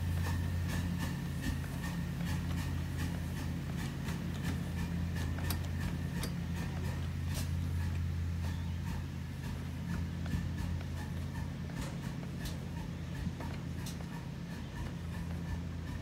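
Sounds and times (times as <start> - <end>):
steady low hum: 0.0 - 16.0
train wheels clicking over rail joints: 0.0 - 16.0.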